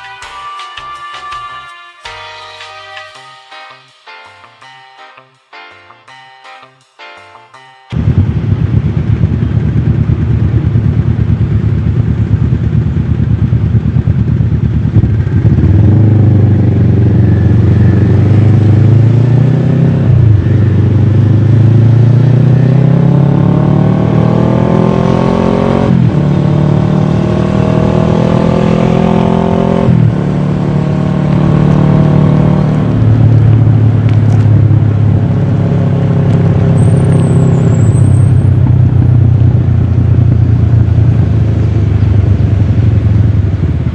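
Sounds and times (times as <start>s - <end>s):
motorcycle engine: 7.9s - 43.9s.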